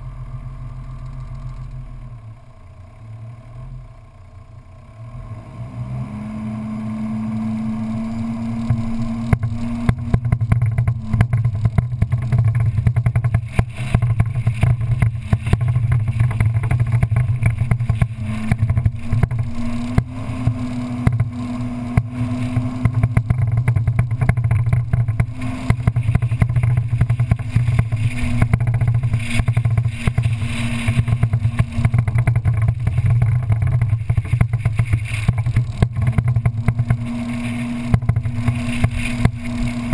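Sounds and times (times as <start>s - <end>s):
buggy engine running: 0.0s - 39.9s.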